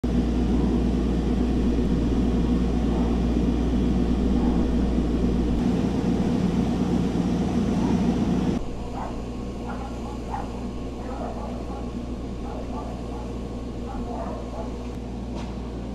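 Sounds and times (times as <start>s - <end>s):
deep rumble: 0.0s - 15.0s
steady mechanical drone: 0.0s - 15.9s.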